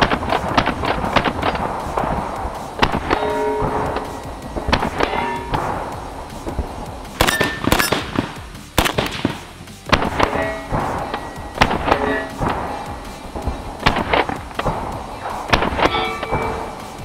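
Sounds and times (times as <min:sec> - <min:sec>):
rifle shots: 0:00.0 - 0:17.0.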